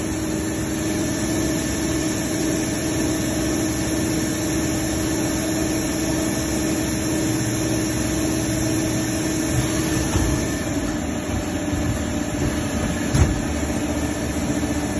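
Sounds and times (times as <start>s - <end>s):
lathe machine hum: 0.0s - 14.9s.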